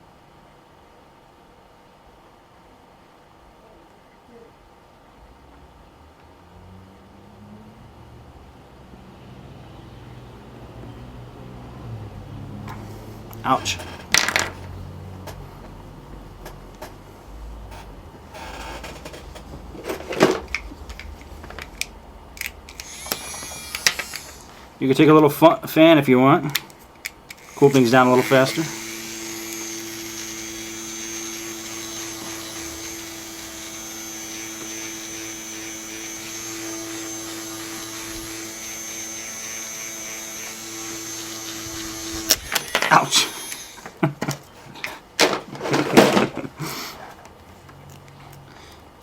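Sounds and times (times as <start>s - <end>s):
electric fan whirring: 5.2s - 49.0s.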